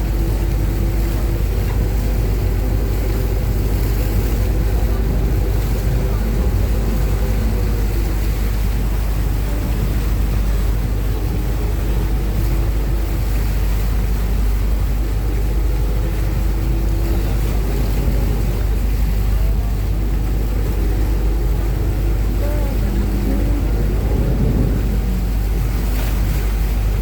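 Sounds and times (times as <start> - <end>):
boat engine drone: 0.0 - 27.0
rushing water: 0.0 - 27.0
wind on microphone: 0.0 - 27.0.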